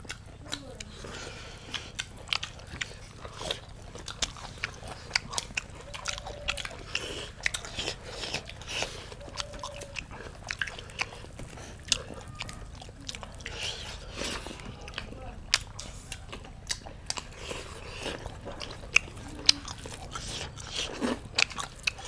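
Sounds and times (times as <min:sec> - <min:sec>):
mouth clicks and smacks: 0:00.0 - 0:22.0
people chewing food: 0:00.0 - 0:22.0.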